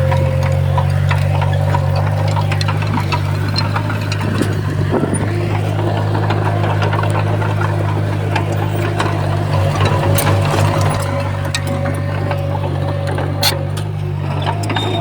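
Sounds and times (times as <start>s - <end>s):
diesel engine running: 0.0s - 15.0s
metallic clicks and clanks: 0.0s - 15.0s.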